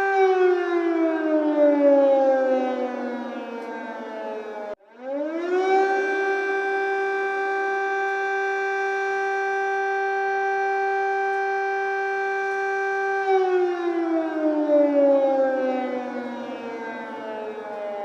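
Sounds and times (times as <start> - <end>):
air raid siren: 0.0 - 18.0.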